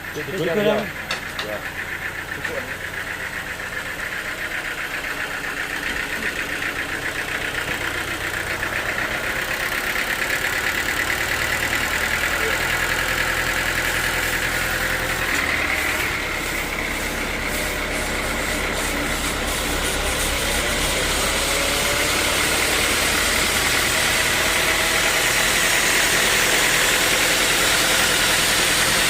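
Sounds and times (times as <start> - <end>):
sawmill machinery drone: 0.0 - 29.0.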